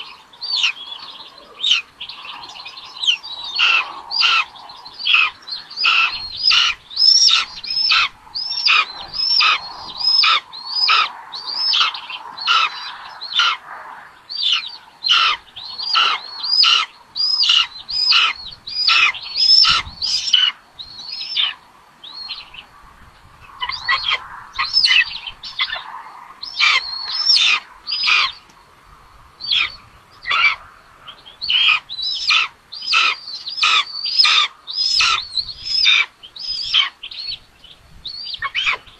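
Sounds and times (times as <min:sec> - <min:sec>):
nestlings begging calls: 0:00.0 - 0:13.6, 0:14.2 - 0:22.8, 0:23.4 - 0:28.5, 0:29.4 - 0:38.9.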